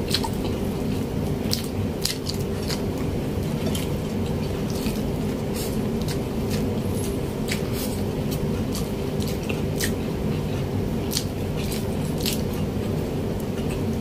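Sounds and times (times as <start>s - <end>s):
steady low hum: 0.0s - 14.0s
wet open-mouthed chewing: 0.0s - 14.0s.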